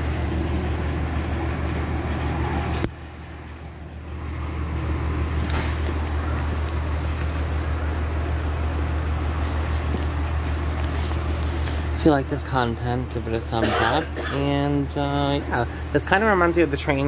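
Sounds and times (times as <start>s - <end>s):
train car hum: 0.0s - 17.0s.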